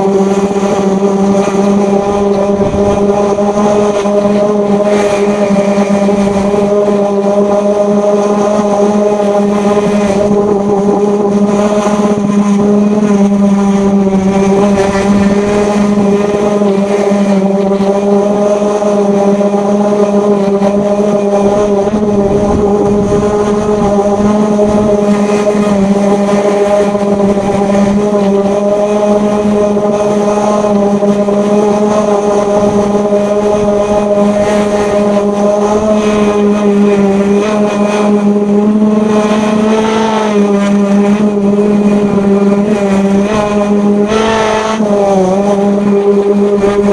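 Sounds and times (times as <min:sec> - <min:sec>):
orbital sander on metal: 0:00.0 - 0:46.9.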